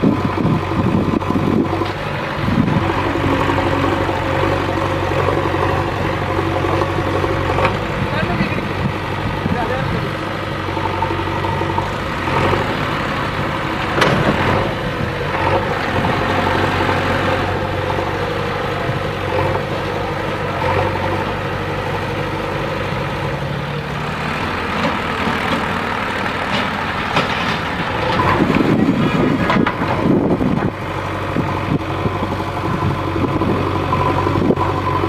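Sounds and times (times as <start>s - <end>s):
backhoe diesel engine running: 0.0s - 35.0s.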